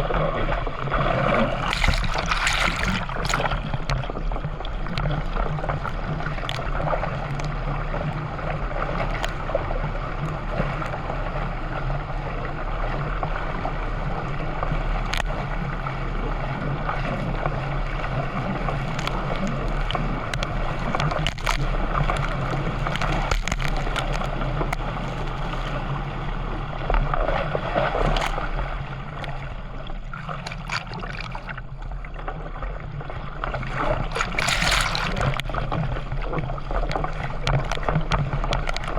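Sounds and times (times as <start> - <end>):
water sloshing around canoe: 0.0 - 38.9.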